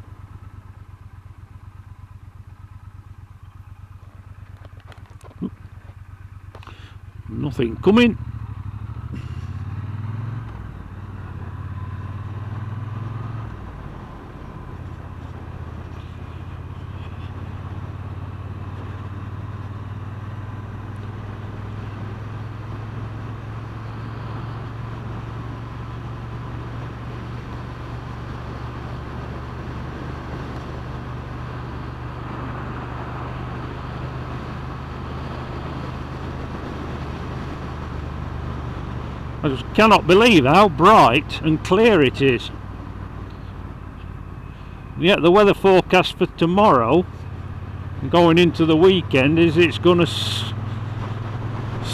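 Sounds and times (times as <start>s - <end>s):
motorcycle engine cruising: 0.0s - 51.9s
road and wind noise: 0.0s - 51.9s.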